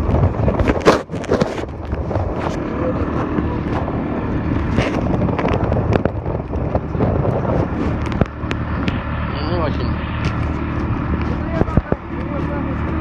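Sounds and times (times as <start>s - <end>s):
moped engine running: 0.0s - 13.0s
wind on microphone: 0.0s - 13.0s.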